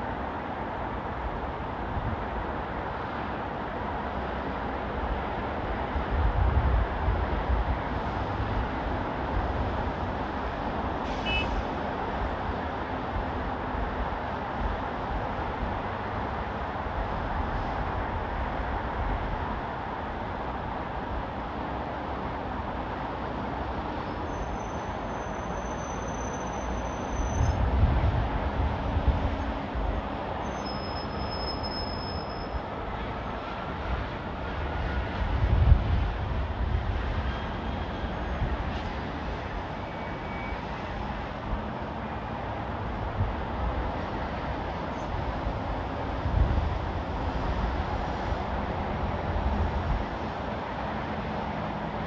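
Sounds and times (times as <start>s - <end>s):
busy road traffic: 0.0s - 52.0s
heavy vehicle rumble: 0.0s - 52.0s.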